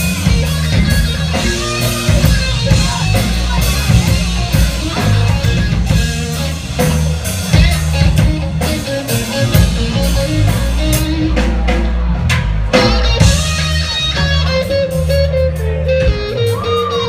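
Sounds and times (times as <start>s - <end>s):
electric guitar lead note: 0.0s - 11.8s, 12.7s - 17.0s
live reggae band playing: 0.0s - 17.0s.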